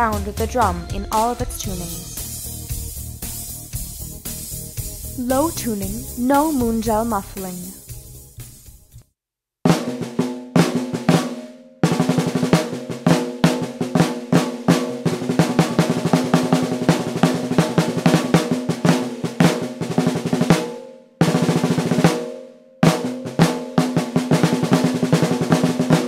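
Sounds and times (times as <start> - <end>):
snare drum strokes and rolls: 1.2 - 8.9, 9.7 - 26.0.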